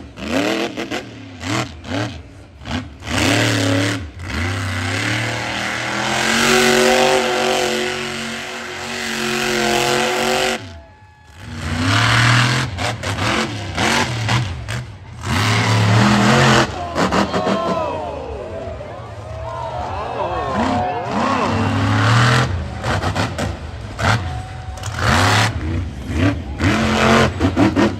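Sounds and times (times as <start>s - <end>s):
monster truck engine revving: 0.0s - 27.9s.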